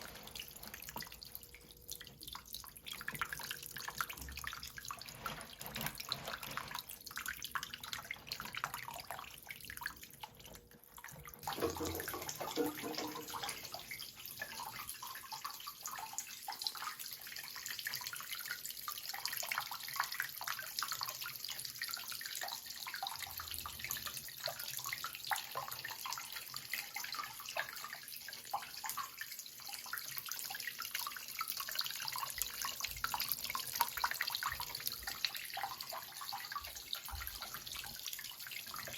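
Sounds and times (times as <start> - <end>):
water fountain trickling: 0.0 - 38.9.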